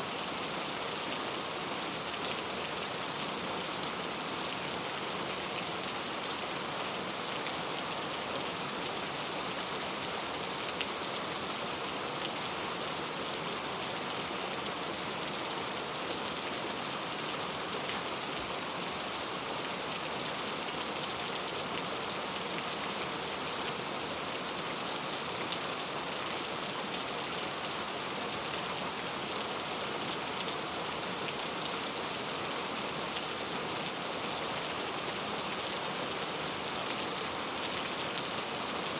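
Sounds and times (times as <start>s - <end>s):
rain on a road: 0.0s - 38.9s.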